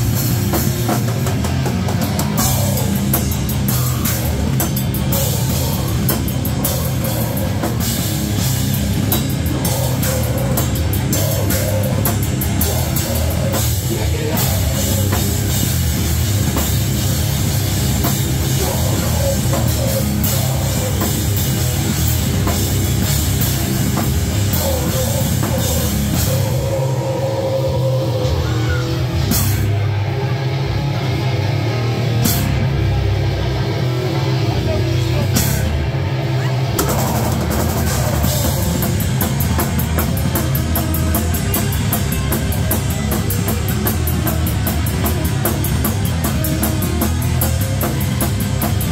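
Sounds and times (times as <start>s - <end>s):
drum kit with cymbals: 0.0s - 48.9s
electric guitar: 0.0s - 48.9s.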